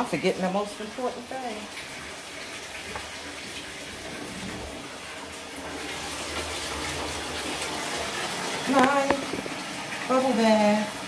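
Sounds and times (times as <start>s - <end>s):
water rushing from a tap: 0.0s - 11.0s.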